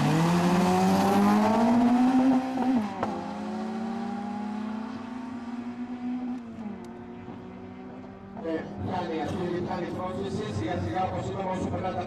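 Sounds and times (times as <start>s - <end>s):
racing car engines at full throttle: 0.0s - 12.0s.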